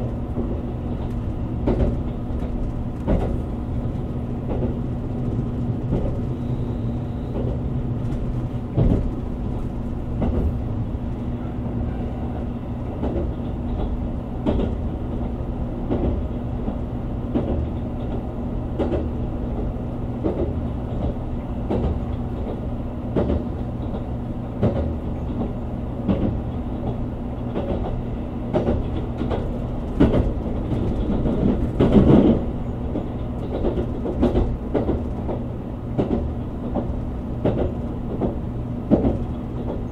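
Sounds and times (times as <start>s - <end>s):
wheels clacking over rail joints: 0.0s - 6.6s, 7.3s - 39.9s
train interior low hum: 0.0s - 39.9s.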